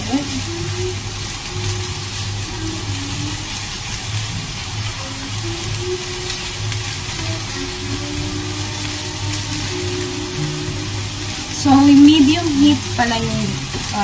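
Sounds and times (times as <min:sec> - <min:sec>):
background music with low beat: 0:00.0 - 0:14.0
food sizzling in a frying pan: 0:00.0 - 0:14.0.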